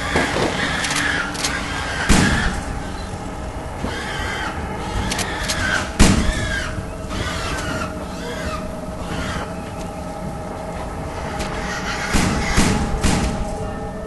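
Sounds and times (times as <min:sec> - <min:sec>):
heavy bangs: 0:00.0 - 0:14.0
high-pitched squeals: 0:00.0 - 0:14.0
low rumble: 0:00.0 - 0:14.0.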